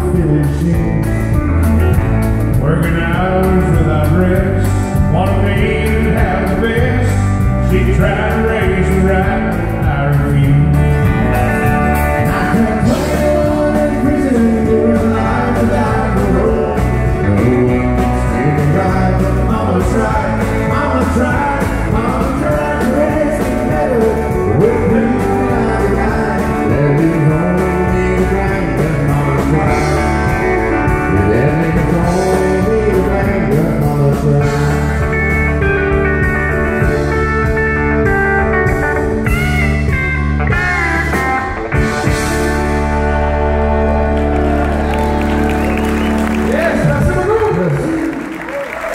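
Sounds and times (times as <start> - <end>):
live country band playing: 0.0 - 48.9.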